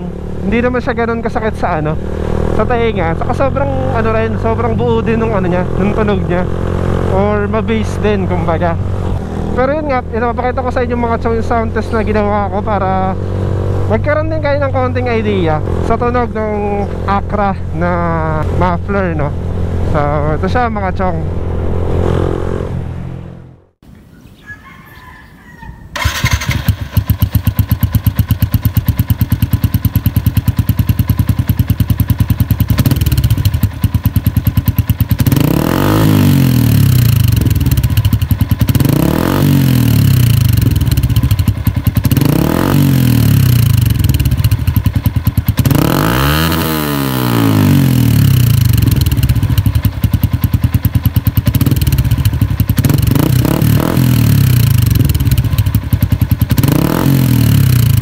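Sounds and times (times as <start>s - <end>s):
motorcycle engine idling and revving: 0.0s - 23.8s, 26.0s - 58.0s.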